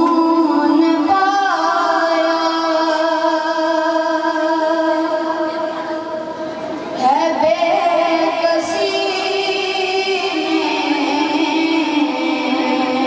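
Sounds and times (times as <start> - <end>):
boy singing into microphone: 0.0 - 13.0.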